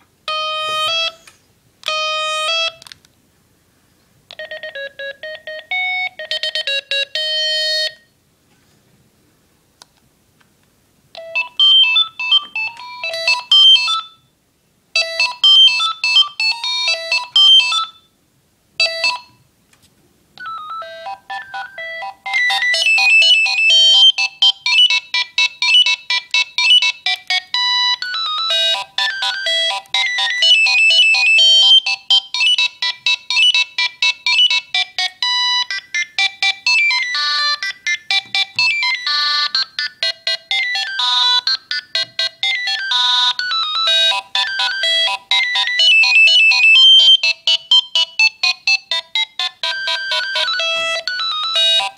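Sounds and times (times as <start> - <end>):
fast busy ringtone tune: 0.3 - 1.2, 1.9 - 2.8, 4.4 - 8.1, 11.2 - 14.2, 15.0 - 18.1, 18.8 - 19.4, 20.4 - 51.9
phone ringtone beeping melody: 0.3 - 2.8, 4.3 - 8.1, 11.2 - 14.3, 15.0 - 18.1, 18.8 - 19.4, 20.4 - 51.9.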